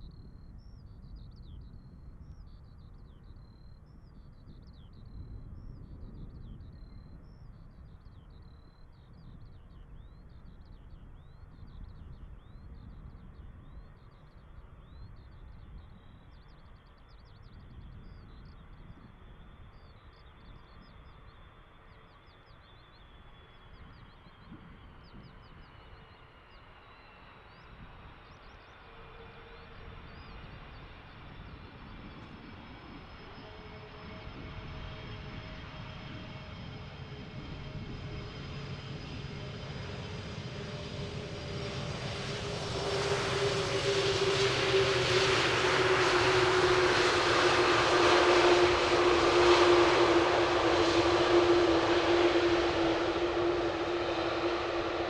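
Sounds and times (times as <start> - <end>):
jet engine rumble and whine: 0.0 - 55.0.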